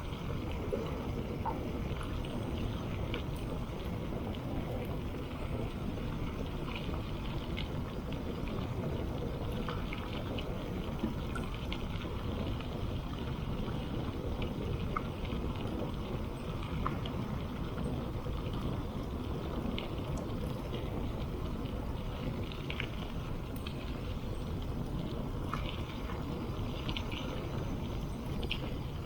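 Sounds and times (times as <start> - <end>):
bicycle tyres on gravel: 0.0 - 29.0
wind buffeting microphone: 0.0 - 29.0
stones crackling under tyres: 0.1 - 29.0.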